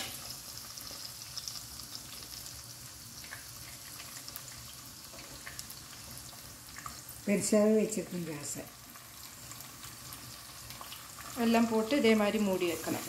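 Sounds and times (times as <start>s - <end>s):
vegetables frying in oil: 0.0s - 13.0s.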